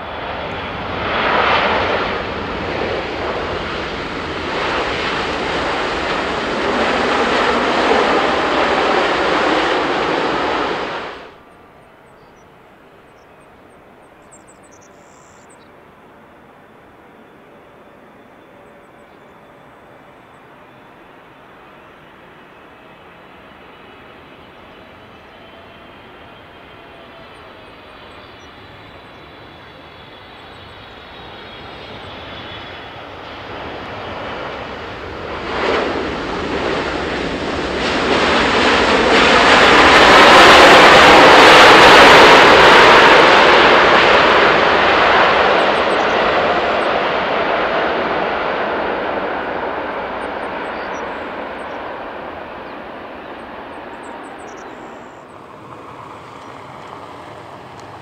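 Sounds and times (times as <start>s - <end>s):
jet engines in reverse thrust: 0.0s - 58.0s.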